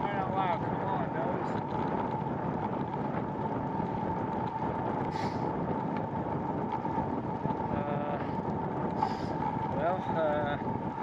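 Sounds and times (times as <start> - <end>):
wind rush and road noise: 0.0 - 11.0.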